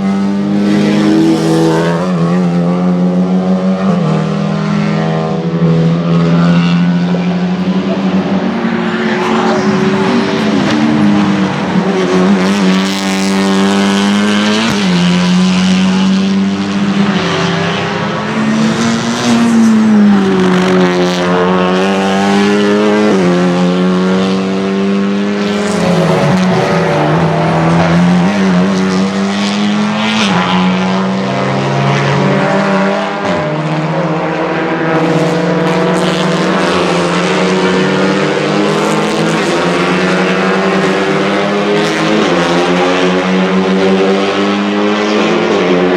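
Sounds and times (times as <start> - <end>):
race car engine at high revs: 0.0 - 45.9.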